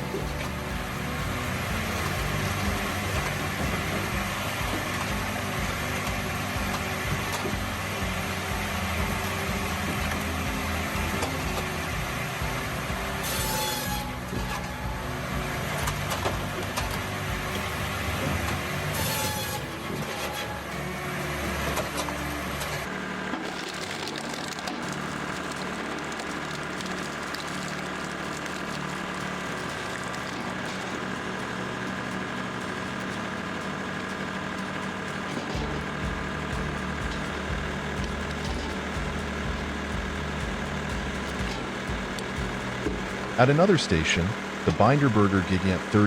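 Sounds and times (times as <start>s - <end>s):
circular saw cutting logs: 0.0s - 46.0s
heavy machinery noise: 0.0s - 46.0s.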